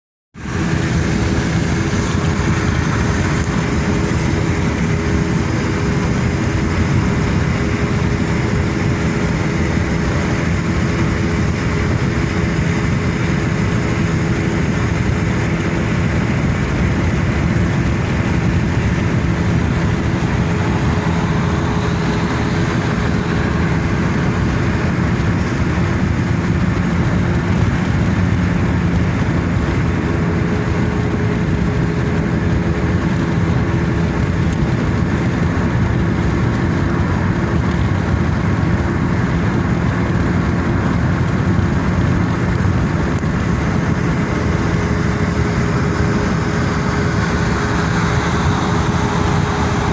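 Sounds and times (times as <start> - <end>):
car engine: 0.3 - 49.9
road noise: 0.3 - 49.9.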